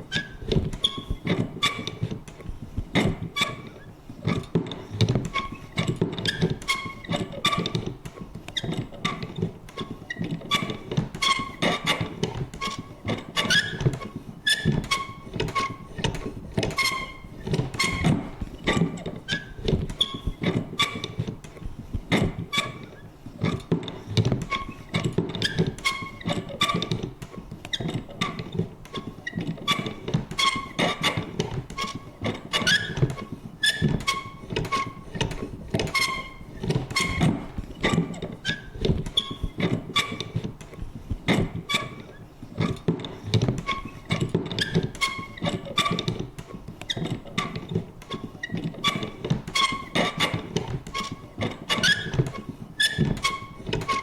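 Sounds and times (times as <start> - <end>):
lever creaking and squeaking: 0.0 - 54.0.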